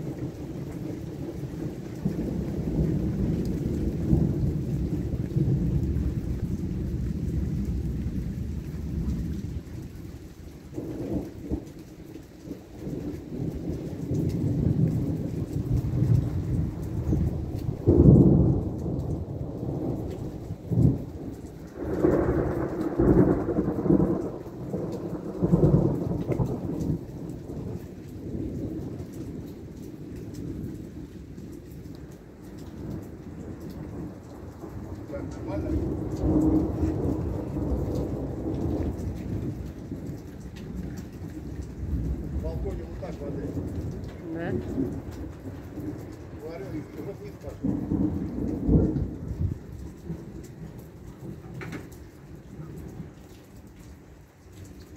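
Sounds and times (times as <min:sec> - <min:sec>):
rain patter: 0:00.0 - 0:54.9
thunder rumbling: 0:00.0 - 0:54.9.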